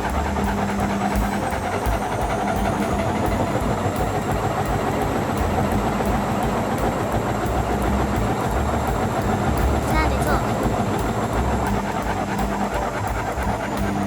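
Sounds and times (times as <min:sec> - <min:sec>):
faint irregular clicks: 0:00.0 - 0:14.0
washing machine drum spinning: 0:00.0 - 0:14.0.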